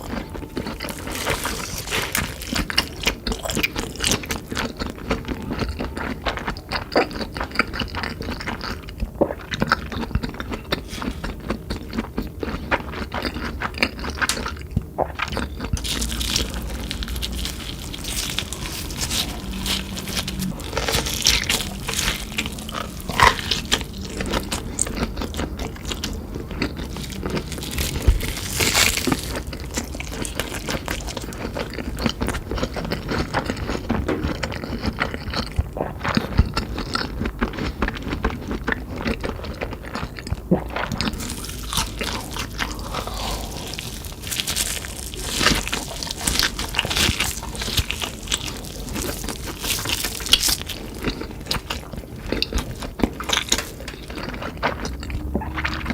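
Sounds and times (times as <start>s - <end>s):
crunching and chewing food: 0.0s - 55.9s.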